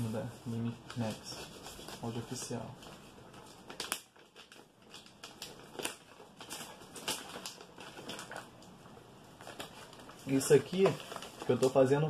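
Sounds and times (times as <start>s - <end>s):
packaging crinkling: 0.8s - 12.0s.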